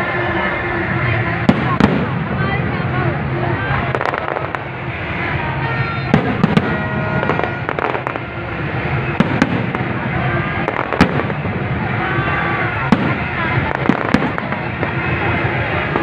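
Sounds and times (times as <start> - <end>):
fireworks bursting with bangs: 1.0 - 16.0.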